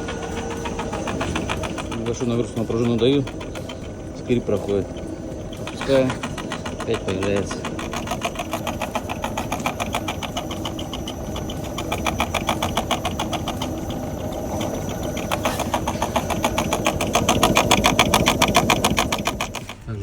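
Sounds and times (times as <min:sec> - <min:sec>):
coil spring creaking and knocking: 0:00.0 - 0:20.0.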